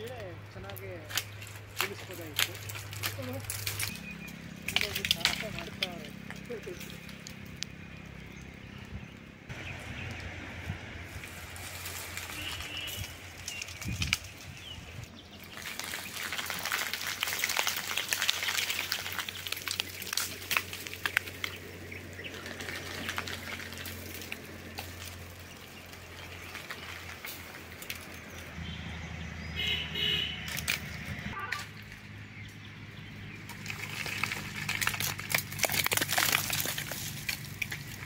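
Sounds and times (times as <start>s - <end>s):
dry pods pattering as they fall: 0.0s - 8.9s, 11.1s - 28.6s, 30.4s - 32.1s, 33.3s - 38.0s
leaves rustling: 0.0s - 38.0s.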